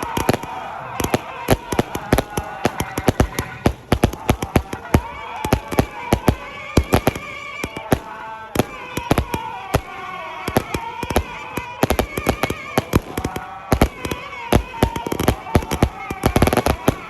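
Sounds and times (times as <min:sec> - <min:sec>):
firework cake bangs: 0:00.0 - 0:17.0.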